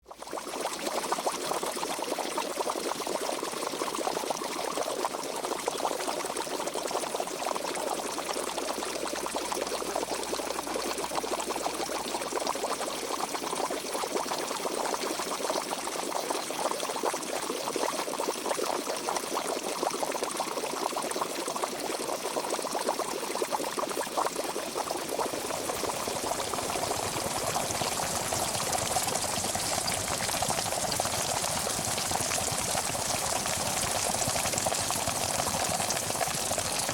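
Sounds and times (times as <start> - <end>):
water boiling in pot: 0.0 - 36.9.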